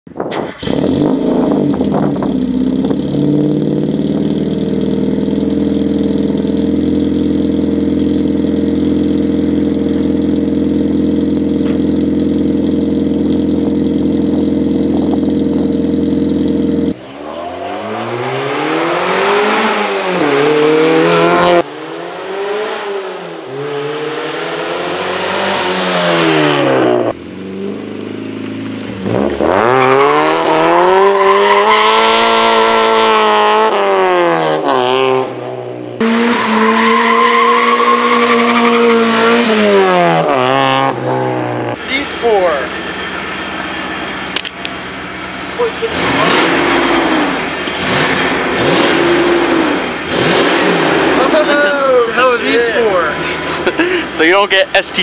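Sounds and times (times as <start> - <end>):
car engine revving: 0.4 - 55.0.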